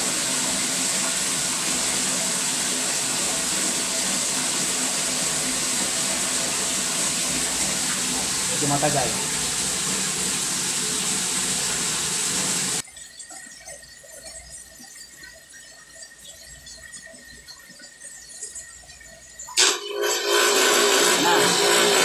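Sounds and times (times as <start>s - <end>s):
water gushing from outlet: 0.0s - 22.0s.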